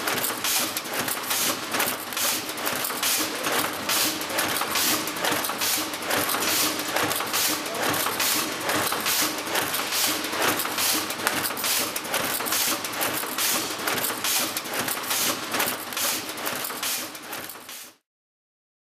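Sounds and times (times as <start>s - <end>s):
mechanical clatter of clacks: 0.0s - 18.0s.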